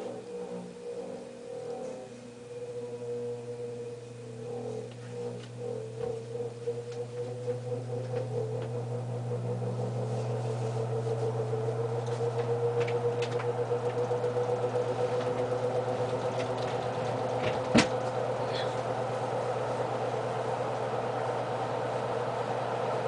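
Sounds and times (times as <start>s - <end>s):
box fan motor humming: 0.0s - 23.0s.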